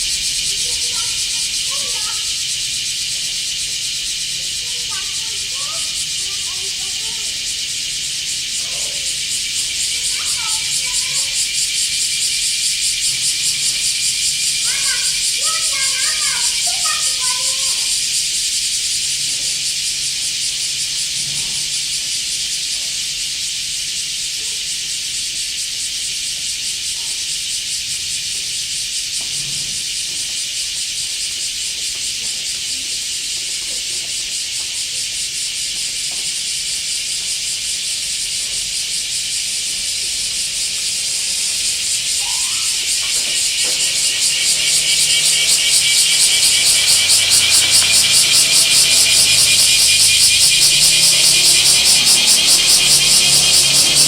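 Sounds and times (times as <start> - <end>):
cicada buzzing: 0.0 - 54.0.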